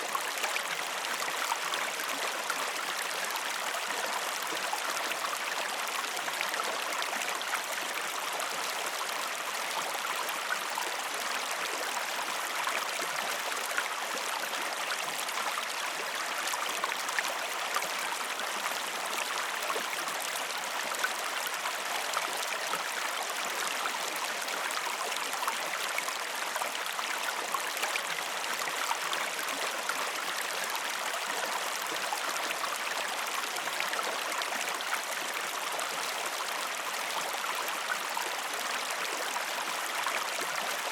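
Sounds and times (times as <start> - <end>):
stream of water flowing: 0.0 - 40.9.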